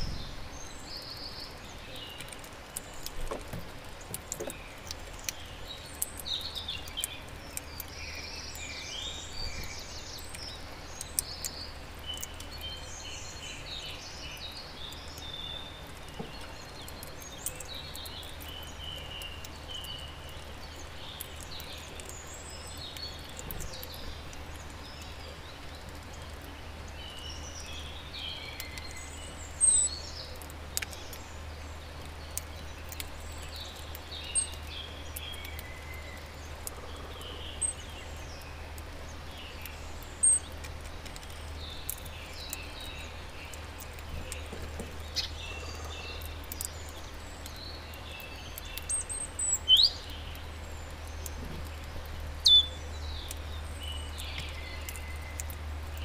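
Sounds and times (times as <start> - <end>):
songbirds chirping and singing: 0.0 - 56.0
faint clicks: 0.8 - 8.7, 9.5 - 13.0, 13.7 - 27.8, 28.4 - 56.0.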